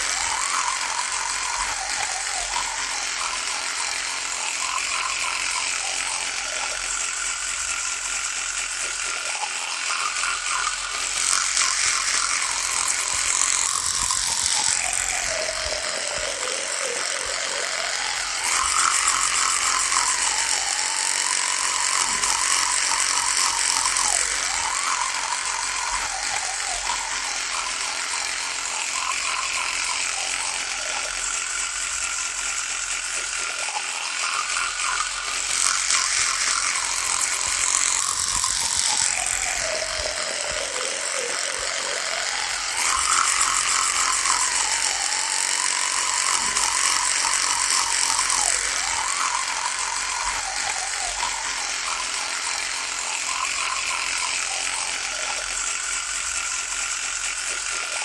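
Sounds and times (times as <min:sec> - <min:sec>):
electric toothbrush buzzing: 0:00.0 - 0:58.0.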